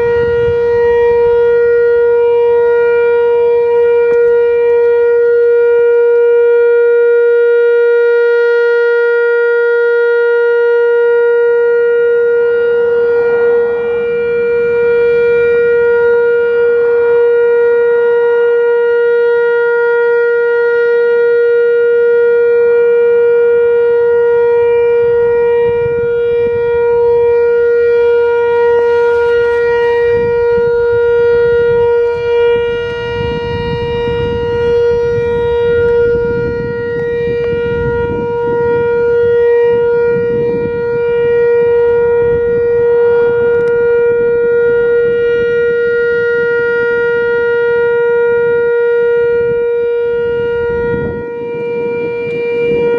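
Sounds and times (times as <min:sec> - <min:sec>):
electronic warning siren tone: 0:00.0 - 0:52.9.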